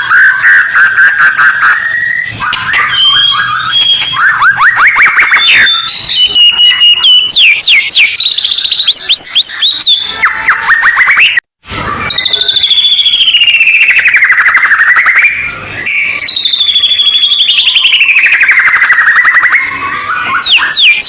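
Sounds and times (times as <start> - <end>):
birds whistling and chipping: 0.0 - 21.0.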